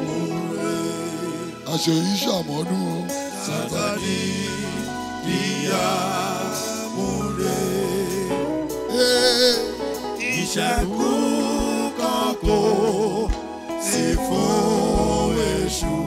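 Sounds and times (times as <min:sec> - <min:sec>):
electronic keyboard: 0:00.0 - 0:16.0
man singing with vibrato: 0:00.0 - 0:16.0.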